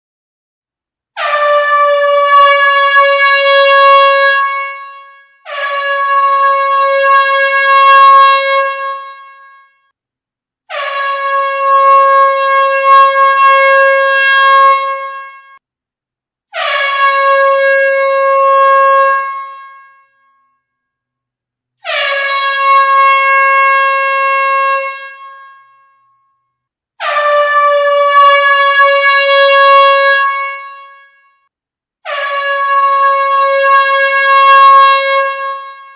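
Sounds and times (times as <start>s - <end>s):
air horn blasts: 1.2s - 9.9s, 10.7s - 15.6s, 16.5s - 20.4s, 21.8s - 26.1s, 27.0s - 35.9s.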